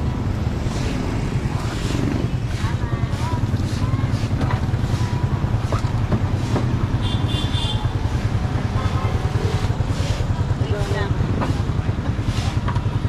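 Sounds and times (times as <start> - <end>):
vehicle engine puttering: 0.0 - 13.0.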